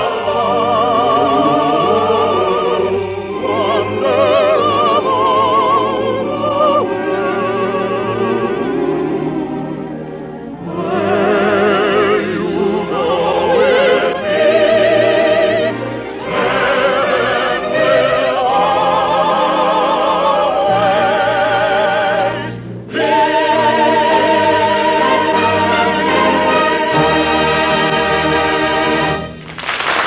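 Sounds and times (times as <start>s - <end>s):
operatic singing with vibrato: 0.0s - 29.4s
orchestra: 0.0s - 30.0s.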